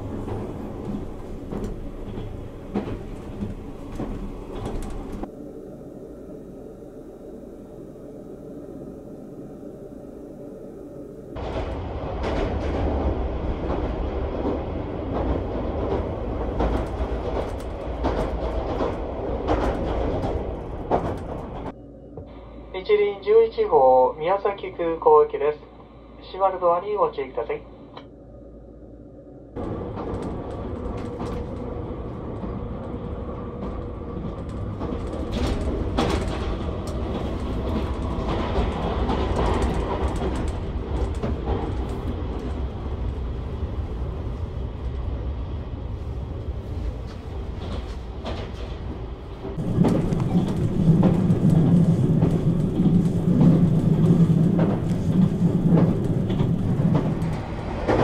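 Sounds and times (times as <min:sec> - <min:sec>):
train rumble from inside carriage: 0:00.0 - 0:58.0.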